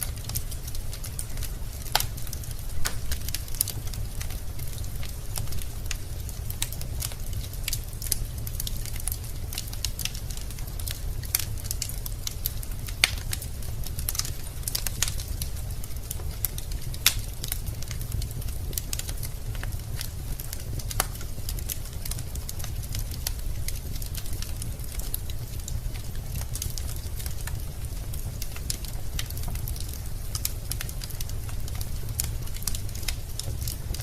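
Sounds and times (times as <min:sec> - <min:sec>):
burning logs crackling and popping: 0:00.0 - 0:34.0
low rumble of flames: 0:00.0 - 0:34.0.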